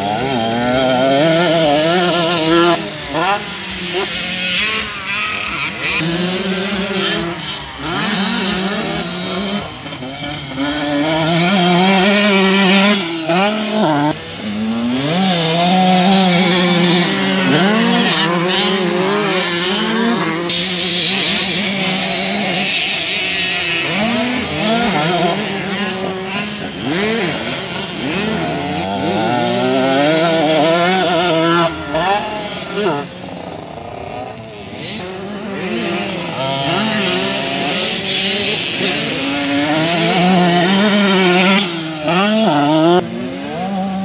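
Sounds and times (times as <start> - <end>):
motocross bikes revving: 0.0 - 44.0.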